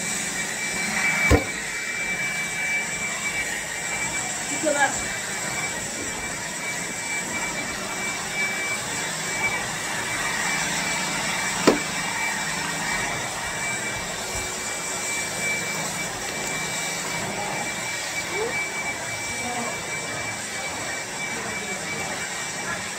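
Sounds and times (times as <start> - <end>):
appliance whirring hum: 0.0 - 22.9.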